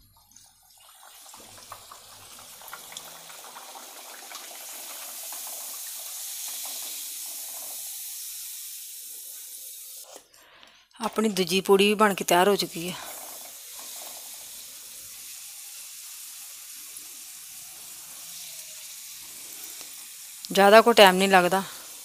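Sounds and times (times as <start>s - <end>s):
dough deep-frying in oil: 0.0s - 10.1s, 11.1s - 22.0s.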